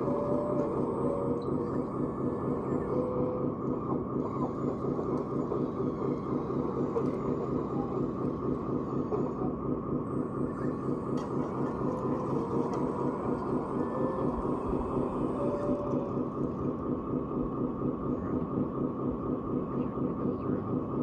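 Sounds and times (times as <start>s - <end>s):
electric motors and gearing drone: 0.0s - 18.8s.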